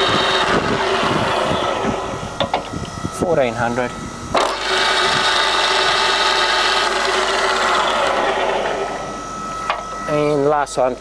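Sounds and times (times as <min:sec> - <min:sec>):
milling machine spindle whine: 0:00.0 - 0:11.0.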